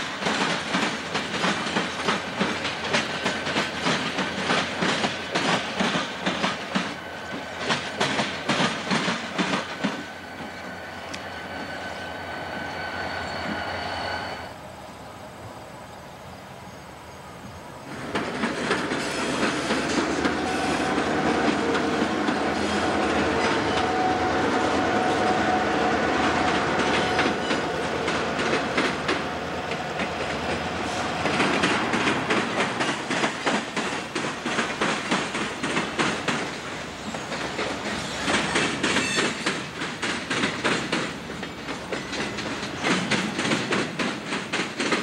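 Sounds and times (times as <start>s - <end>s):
train wheels clicking over joints: 0.0s - 14.6s, 17.8s - 45.0s
diesel locomotive engines: 0.0s - 45.0s.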